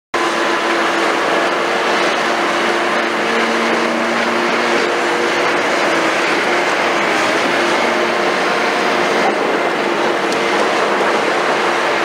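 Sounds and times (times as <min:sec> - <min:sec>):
excavator diesel engine under load: 0:00.2 - 0:12.0
steady humming tones: 0:00.2 - 0:12.0.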